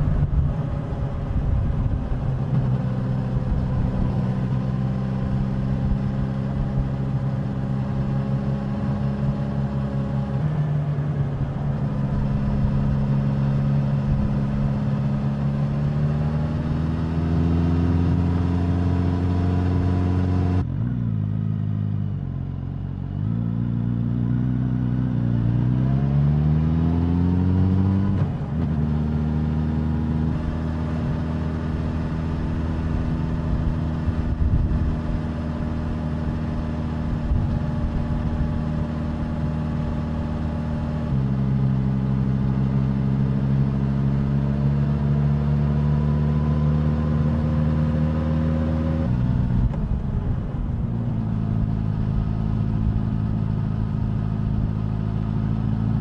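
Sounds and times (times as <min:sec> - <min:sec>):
motorcycle engine and exhaust: 0:00.0 - 0:56.0.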